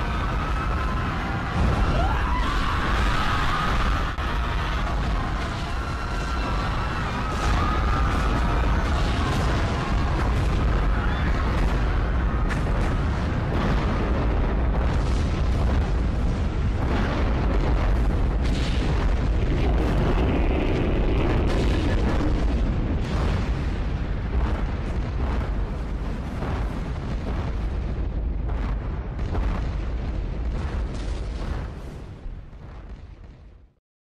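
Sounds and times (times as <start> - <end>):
deep rumbling with booms and crashes: 0.0 - 33.8.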